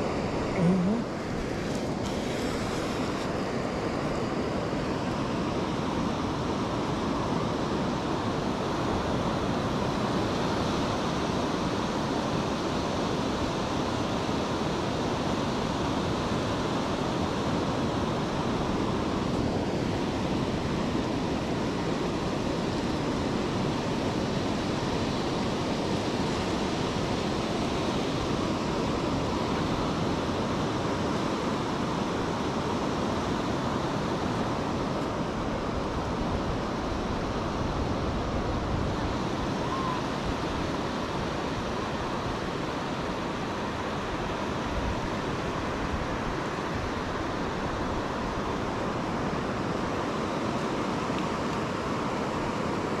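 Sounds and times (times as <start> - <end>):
waves washing on beach: 0.0 - 53.0.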